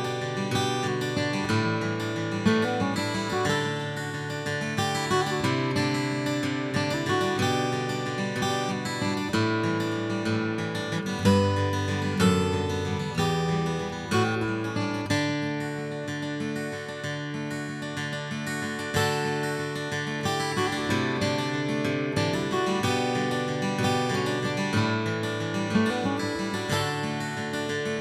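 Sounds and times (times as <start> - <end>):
acoustic guitar strummed and plucked: 0.0 - 28.0.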